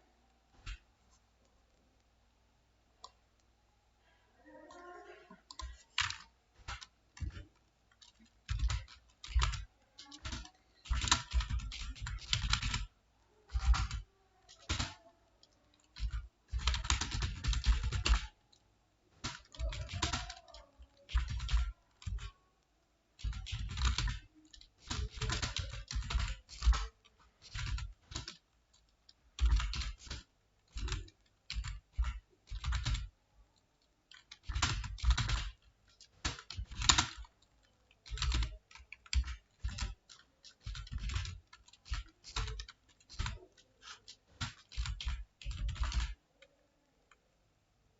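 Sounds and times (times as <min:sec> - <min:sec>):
computer keyboard typing: 0:04.5 - 0:22.4, 0:23.1 - 0:47.2.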